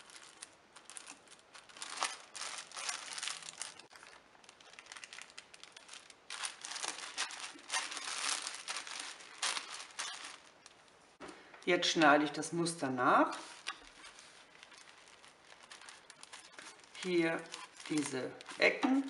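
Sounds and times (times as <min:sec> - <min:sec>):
paper bags rustling: 0:00.0 - 0:11.0, 0:12.3 - 0:18.8.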